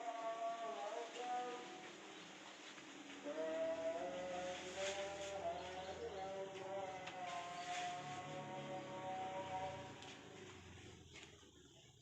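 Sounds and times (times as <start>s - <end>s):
faint music with held notes: 0.0s - 12.0s.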